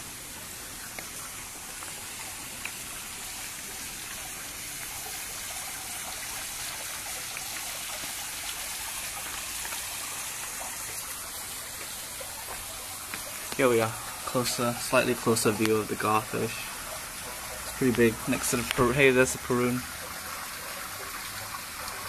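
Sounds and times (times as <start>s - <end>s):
water splashing into pond: 0.0s - 22.0s.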